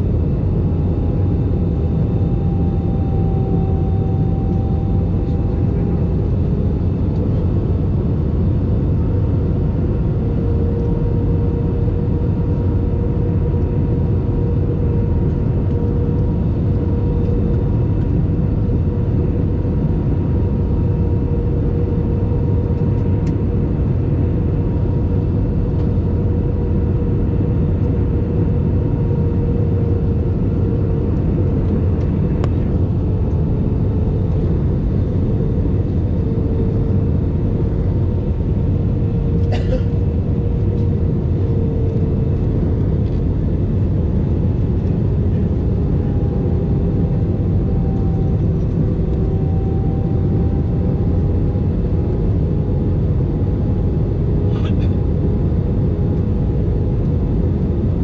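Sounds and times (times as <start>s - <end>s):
jet engines and airflow rushing: 0.0s - 58.0s.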